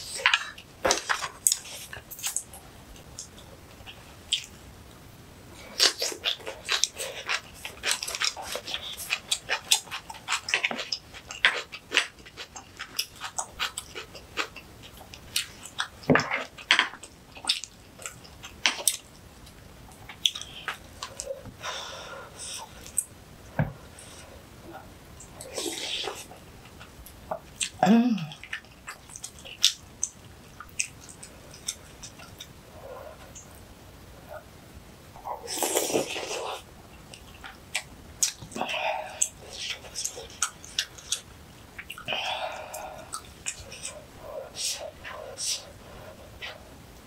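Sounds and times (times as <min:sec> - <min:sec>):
chewing with clicks and crackles: 0:00.0 - 0:05.0, 0:05.6 - 0:21.6, 0:23.9 - 0:34.5, 0:35.2 - 0:47.0.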